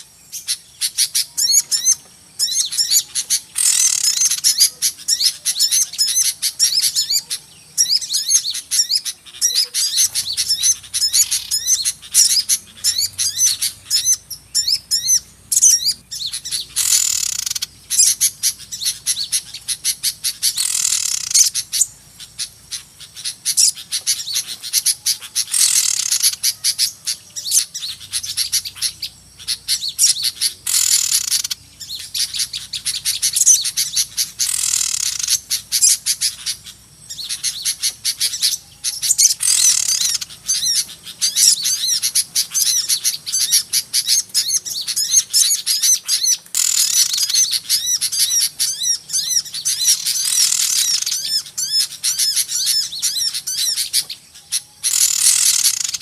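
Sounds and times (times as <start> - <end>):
flock of small birds chirping: 0.0 - 56.0.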